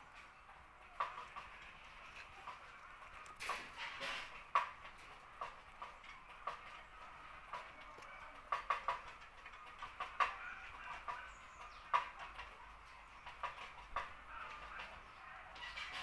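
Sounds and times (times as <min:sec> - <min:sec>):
chickens clucking: 0:00.0 - 0:16.0
faint farmyard background: 0:00.0 - 0:16.0.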